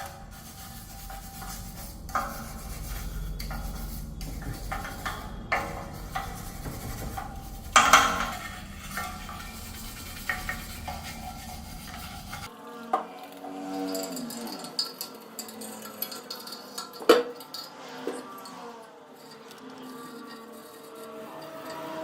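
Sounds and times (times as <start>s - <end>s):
scraping and rubbing on metal: 0.0s - 12.5s, 13.9s - 22.0s.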